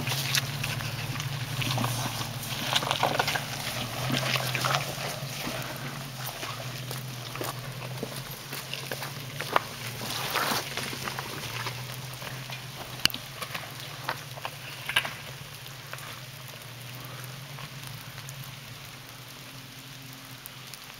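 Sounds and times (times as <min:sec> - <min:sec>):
engine running at low revs: 0:00.0 - 0:20.9.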